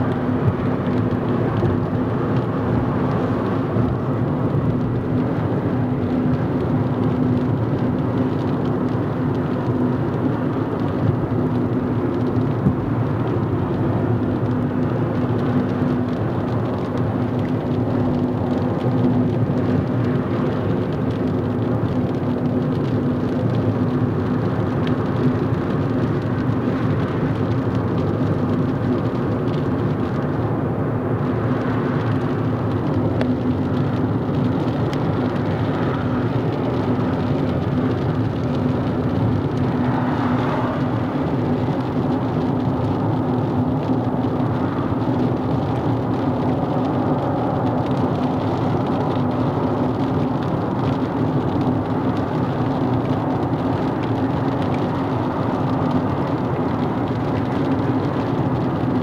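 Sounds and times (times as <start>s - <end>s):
car engine and tyre rumble: 0.0s - 59.0s
constant low hum: 0.0s - 59.0s.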